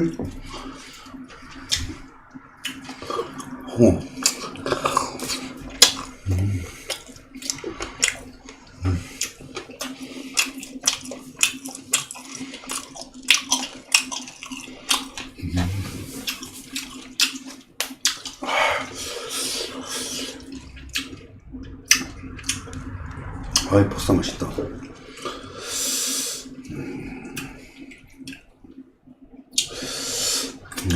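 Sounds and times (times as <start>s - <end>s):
steady low hum: 0.0s - 30.9s
wet chewing and lip-smacking: 0.5s - 22.8s, 27.3s - 29.8s.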